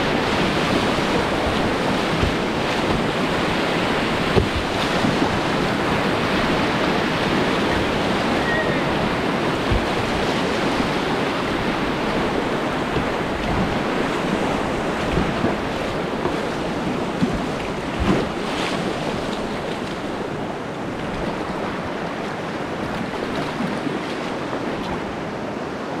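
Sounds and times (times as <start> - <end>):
water splashes: 0.0 - 25.8
whitewater rapids roaring: 0.0 - 26.0.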